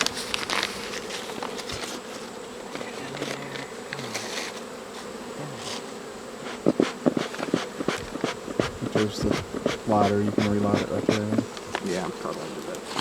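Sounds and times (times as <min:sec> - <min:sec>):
honeybees buzzing: 0:00.0 - 0:13.0
single bee droning close: 0:00.0 - 0:13.0.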